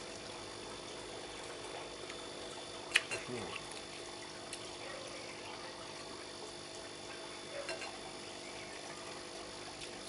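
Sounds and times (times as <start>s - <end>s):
electrical machine hum: 0.0s - 10.0s.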